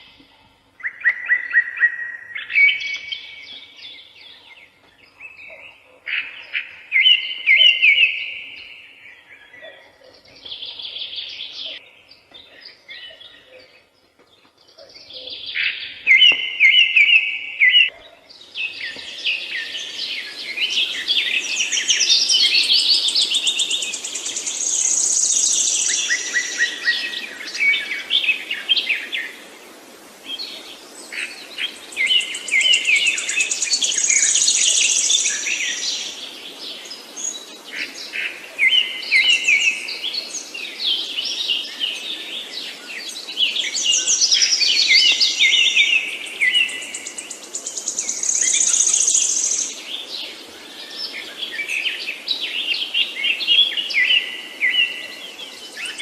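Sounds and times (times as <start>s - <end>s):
background hiss: 0.0s - 56.0s
songbirds singing: 0.0s - 56.0s.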